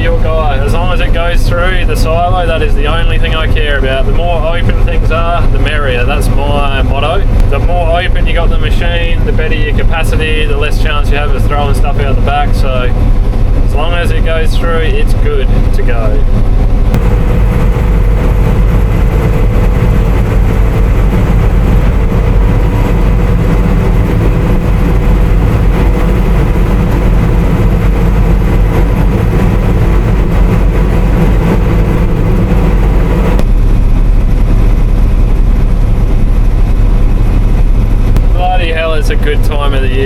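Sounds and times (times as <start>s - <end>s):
combine harvester rumbling: 0.0s - 40.0s
machinery whine: 0.0s - 40.0s.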